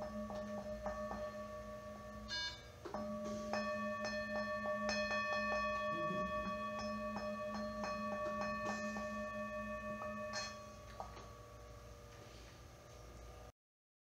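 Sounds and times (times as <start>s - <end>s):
singing bowl ringing: 0.0s - 12.1s
low wavering hum: 0.0s - 13.5s.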